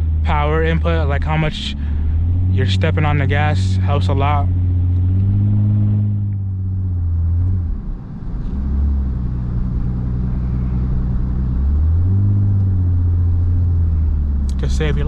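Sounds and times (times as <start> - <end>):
car engine running: 0.0 - 15.0
road and tyre noise: 0.0 - 15.0.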